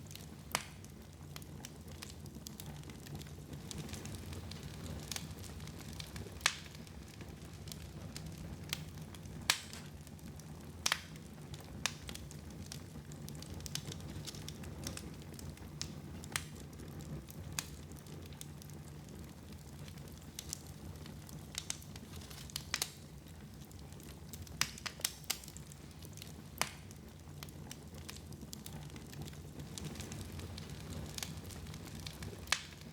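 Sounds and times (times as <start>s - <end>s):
fire crackling and popping: 0.0s - 32.9s
fire rumbling: 0.0s - 32.9s.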